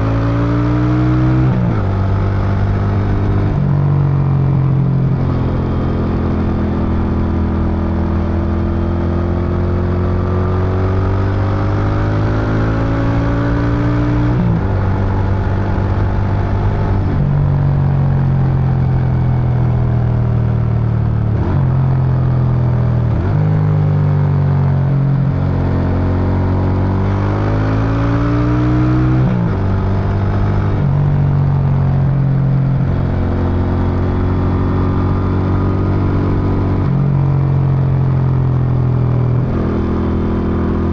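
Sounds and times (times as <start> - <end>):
motorcycle accelerating: 0.0 - 40.9.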